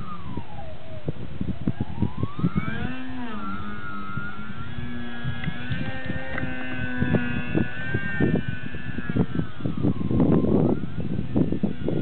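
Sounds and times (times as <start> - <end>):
model aeroplane motor whining: 0.0 - 12.0
wind rumbling on microphone: 0.0 - 12.0.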